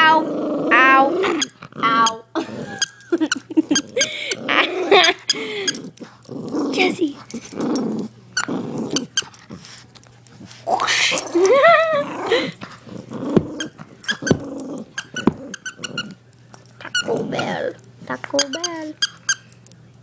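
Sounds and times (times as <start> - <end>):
dog growling in play: 0.0 - 18.2.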